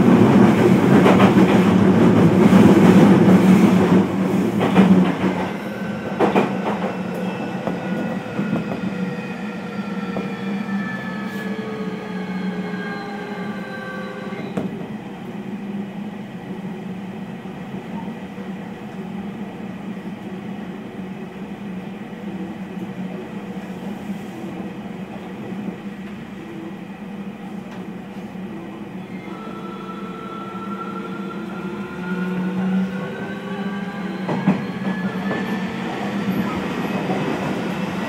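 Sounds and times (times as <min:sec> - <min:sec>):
train wheel and rolling noise: 0:00.0 - 0:16.9, 0:17.7 - 0:38.0.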